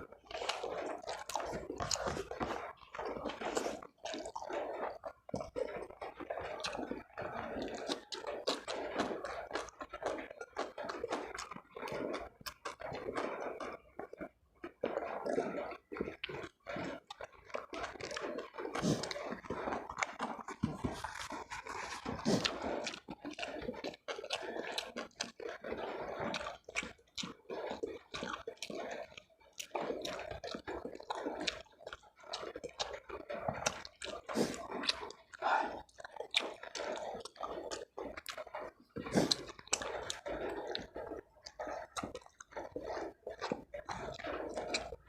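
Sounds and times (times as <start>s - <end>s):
person chewing crunchy food: 0.0s - 45.0s.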